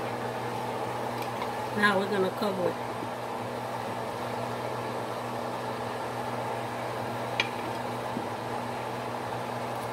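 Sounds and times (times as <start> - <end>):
fan-like mechanical hum: 0.0 - 9.9.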